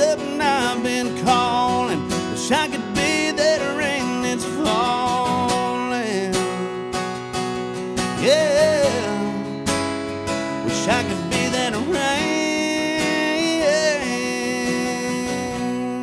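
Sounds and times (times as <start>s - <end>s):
man singing sliding notes: 0.0s - 6.7s, 8.2s - 9.6s, 10.6s - 16.0s
acoustic guitar strumming: 0.0s - 16.0s.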